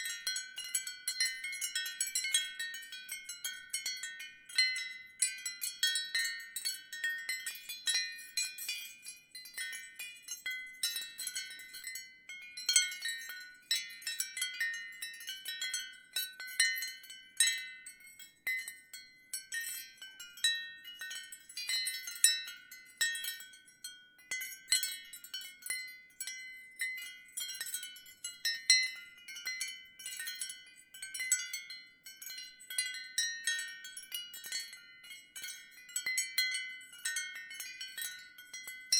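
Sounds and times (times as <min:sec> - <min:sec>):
ceramic wind chime tinkling: 0:00.0 - 0:38.9.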